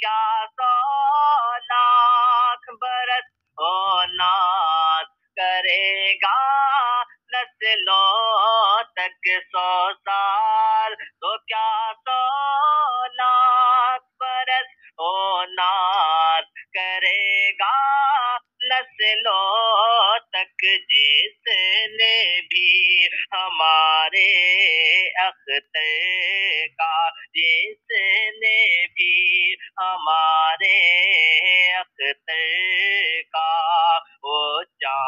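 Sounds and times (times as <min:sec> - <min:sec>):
person singing unaccompanied: 0:00.0 - 0:35.0.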